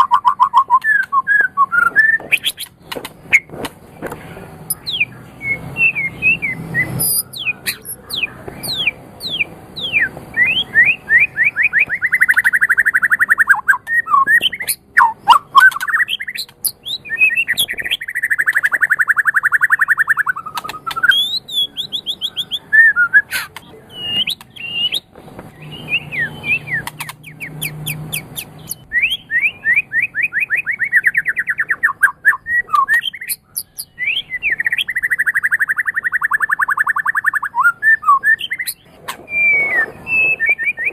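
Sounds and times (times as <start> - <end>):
bird singing varied song: 0.0 - 40.9.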